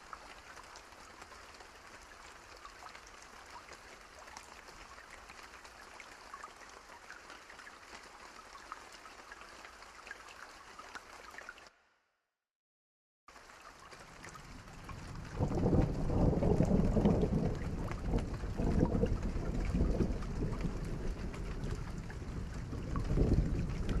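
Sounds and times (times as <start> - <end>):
steady rain: 0.0 - 11.8, 13.3 - 24.0.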